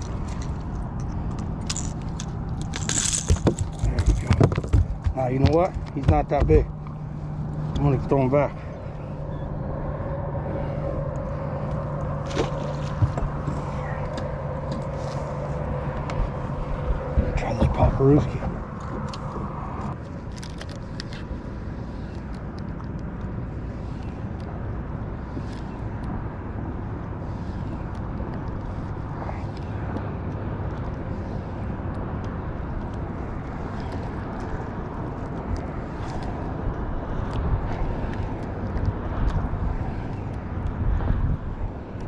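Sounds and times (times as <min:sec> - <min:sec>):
wind buffeting microphone: 0:00.0 - 0:20.0, 0:21.1 - 0:42.0.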